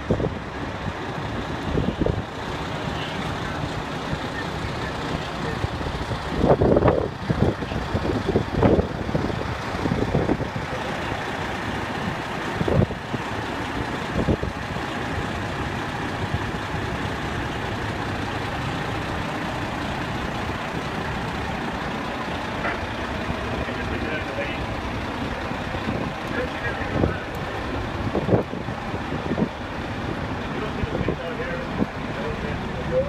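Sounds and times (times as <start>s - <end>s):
fire engine droning: 0.0s - 33.0s.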